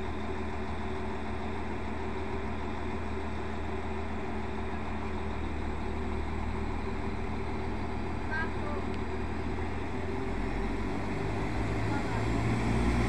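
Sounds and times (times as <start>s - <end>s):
train diesel engine idling: 0.0s - 12.6s.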